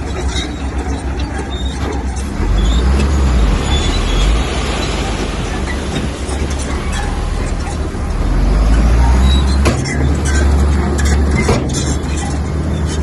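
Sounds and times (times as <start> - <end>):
bulldozer diesel engine under load: 0.0 - 13.0.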